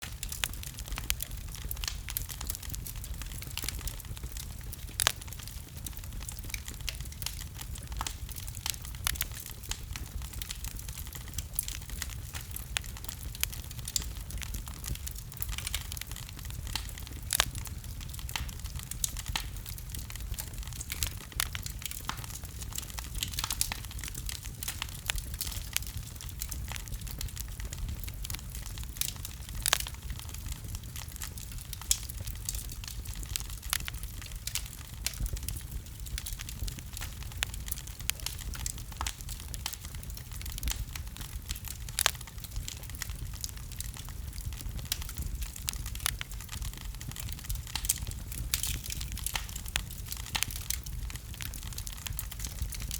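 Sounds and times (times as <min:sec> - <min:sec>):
low rumble of flames: 0:00.0 - 0:52.9
wood fire crackling and popping: 0:00.0 - 0:52.9.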